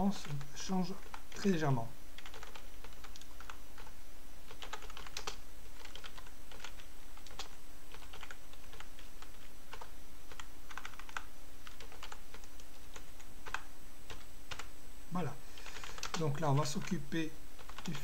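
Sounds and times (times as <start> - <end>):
computer keyboard typing: 0.0 - 1.6, 2.2 - 14.7, 15.6 - 17.0, 17.6 - 18.0
faint steady hum: 0.0 - 18.0.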